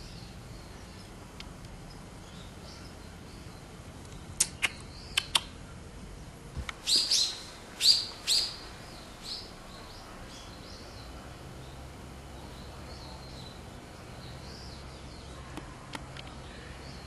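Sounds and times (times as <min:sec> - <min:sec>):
small bird chirping: 0:01.8 - 0:05.6, 0:06.8 - 0:17.0.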